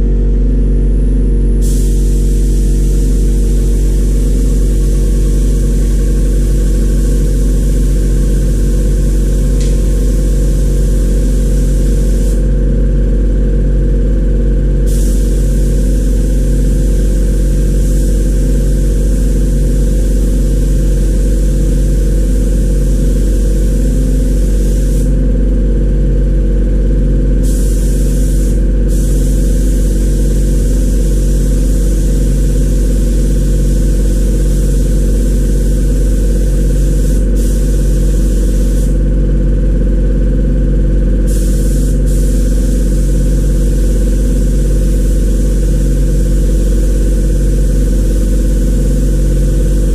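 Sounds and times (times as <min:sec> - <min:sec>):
air compressor humming: 0:00.0 - 0:49.9
paint spray gun hissing: 0:01.6 - 0:12.5, 0:14.9 - 0:25.1, 0:27.4 - 0:39.0, 0:41.2 - 0:49.9.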